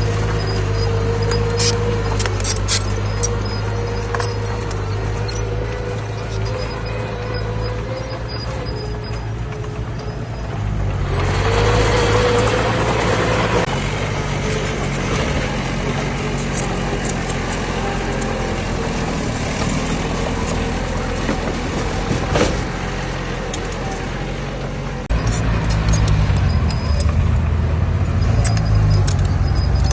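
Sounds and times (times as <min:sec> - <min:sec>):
diesel machine engine running: 0:00.0 - 0:29.9.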